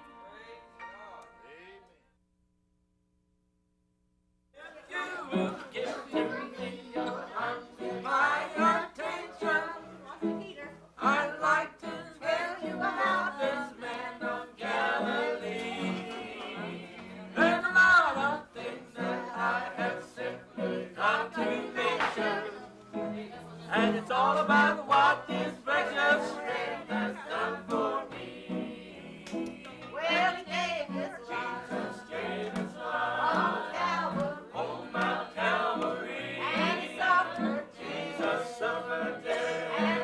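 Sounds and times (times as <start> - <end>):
gospel singing with instruments: 0.0 - 2.0, 4.6 - 40.0.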